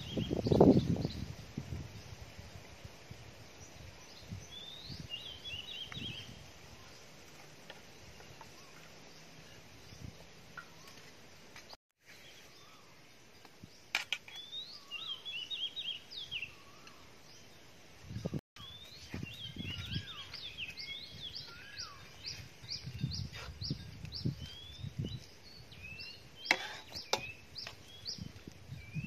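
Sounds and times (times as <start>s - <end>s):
small birds chirping: 0.0s - 2.4s, 3.4s - 29.0s.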